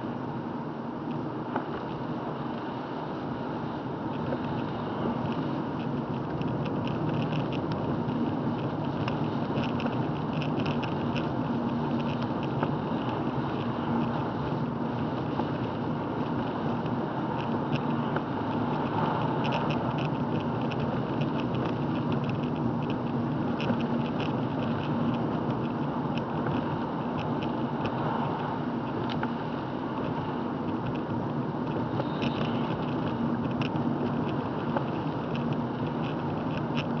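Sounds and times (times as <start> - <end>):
car driving on wet road: 0.0 - 37.0
faint light ticks: 4.1 - 37.0.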